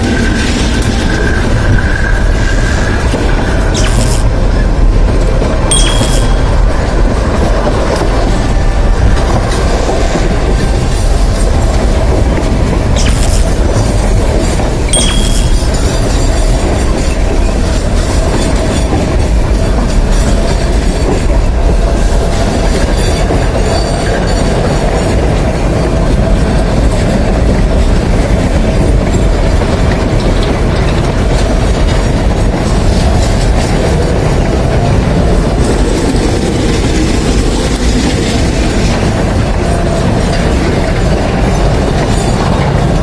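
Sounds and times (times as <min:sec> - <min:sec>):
freight train wheels clattering: 0:00.0 - 0:43.0.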